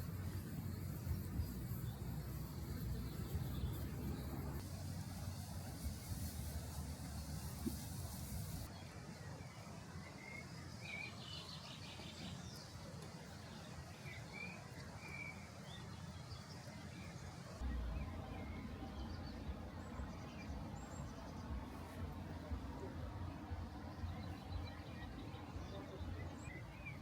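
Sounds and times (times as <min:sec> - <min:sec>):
birds chirping: 0:00.0 - 0:04.6, 0:05.2 - 0:27.0
low background noise: 0:00.0 - 0:27.0.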